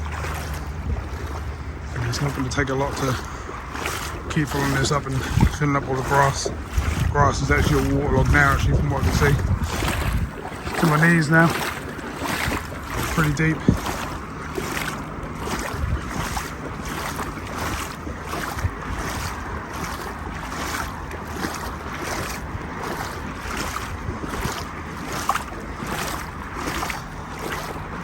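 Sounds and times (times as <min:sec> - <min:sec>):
legs wading through water: 0:00.0 - 0:28.0
wind on microphone: 0:00.0 - 0:28.0.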